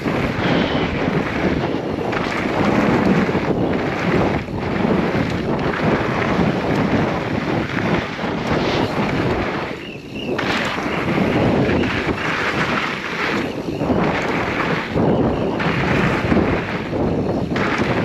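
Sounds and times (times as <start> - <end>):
bike tyre and trail rumble: 0.0 - 18.0
wind buffeting microphone: 0.0 - 18.0.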